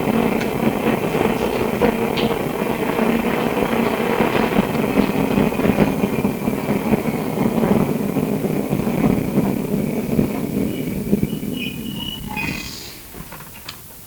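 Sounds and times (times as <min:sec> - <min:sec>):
ticks and rattles: 0:00.0 - 0:14.0
tram running gear rumble: 0:00.0 - 0:14.0.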